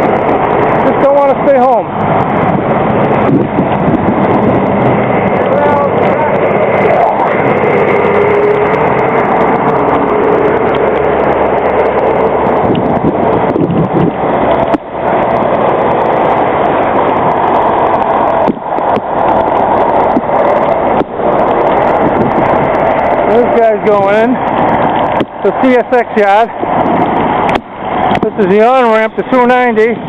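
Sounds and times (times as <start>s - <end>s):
high whine: 0.0s - 30.0s
large engine drone: 0.0s - 30.0s
traffic noise: 0.0s - 30.0s.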